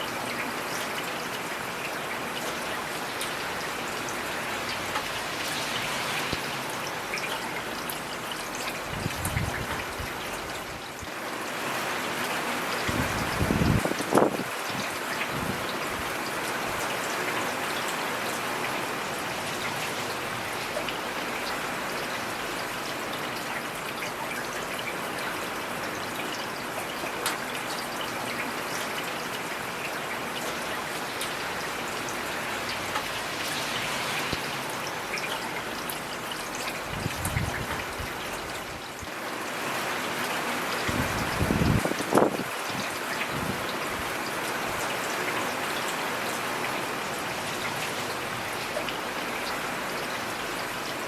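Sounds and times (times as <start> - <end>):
heavy rain hiss: 0.1 - 24.2, 29.1 - 51.0.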